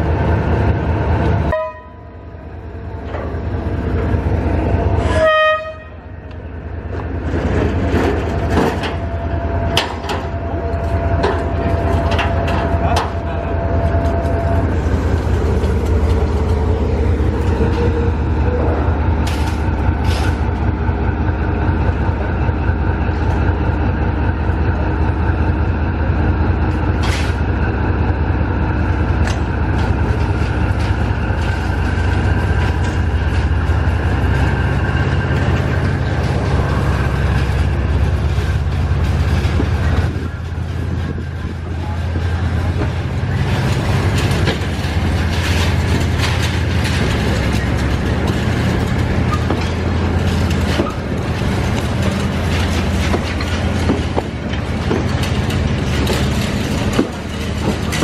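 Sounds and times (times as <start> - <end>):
locomotive engine humming: 0.0 - 58.0.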